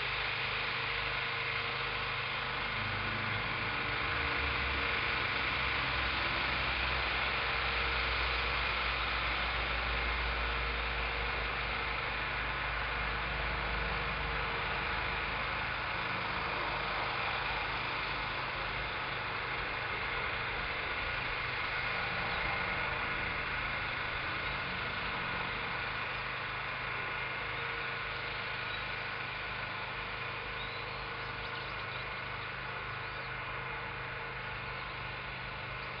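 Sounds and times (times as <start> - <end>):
engine humming with hiss: 0.0 - 36.0.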